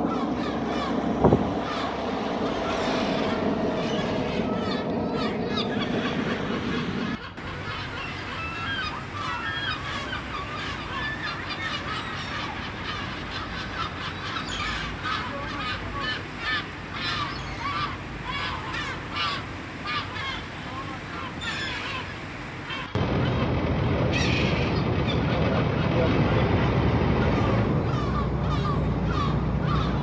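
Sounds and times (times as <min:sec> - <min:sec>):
low steady hum: 0:00.0 - 0:19.8, 0:21.9 - 0:30.0
seagulls calling: 0:00.0 - 0:30.0.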